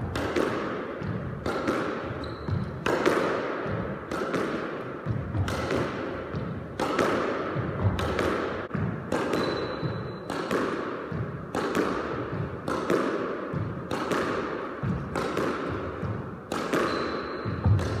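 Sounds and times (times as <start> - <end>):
ball hitting wall and floor: 0.0 - 18.0
squash racket striking ball: 0.0 - 18.0.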